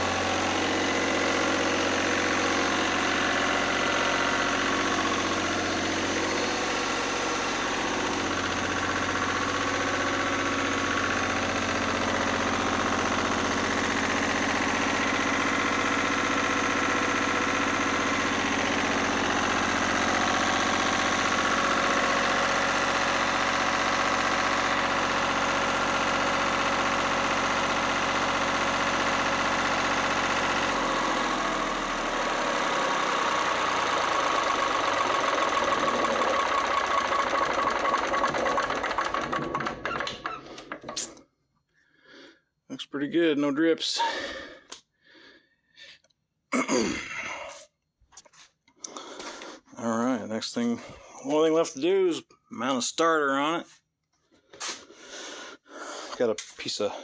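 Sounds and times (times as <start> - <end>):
diesel generator engine droning: 0.0 - 45.9.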